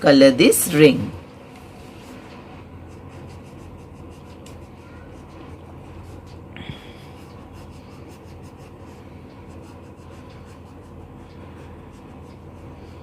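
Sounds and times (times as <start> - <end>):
low hum: 0.0 - 13.0
colouring strokes on paper: 1.5 - 13.0.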